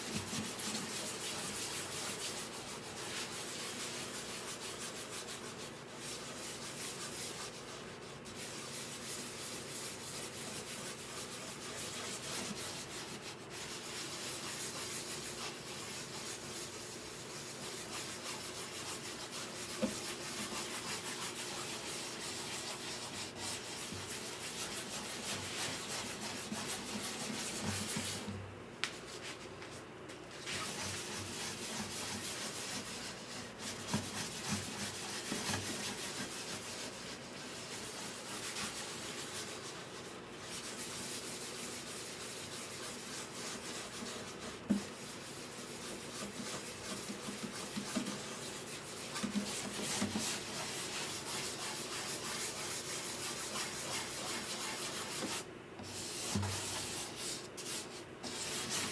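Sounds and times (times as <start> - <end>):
wood sanding strokes: 0.4 - 27.7, 30.5 - 58.9.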